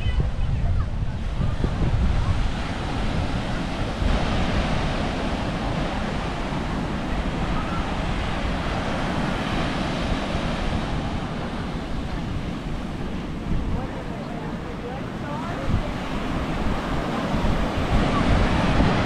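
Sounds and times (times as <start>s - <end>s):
ocean surf washing onto beach: 0.0s - 19.0s
wind buffeting microphone: 0.0s - 19.0s.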